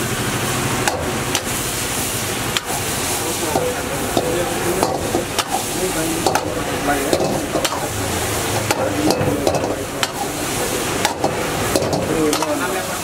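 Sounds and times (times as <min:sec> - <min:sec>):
frying sizzle: 0:00.0 - 0:13.0
metal spatula scraping wok: 0:01.0 - 0:13.0.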